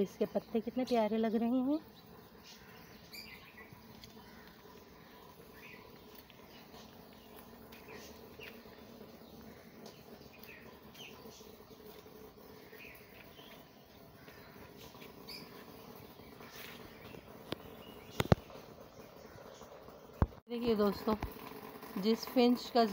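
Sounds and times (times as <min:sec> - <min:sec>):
small birds chirping: 0:00.0 - 0:20.4.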